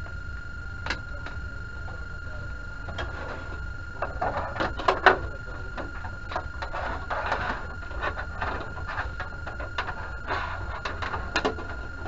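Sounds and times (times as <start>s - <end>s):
steady high tone: 0.0s - 12.0s.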